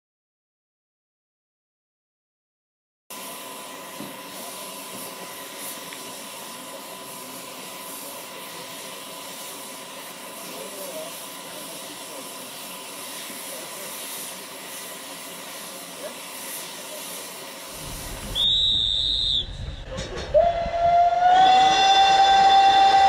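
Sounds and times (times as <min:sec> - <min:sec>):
steam venting hiss: 0:03.1 - 0:23.0.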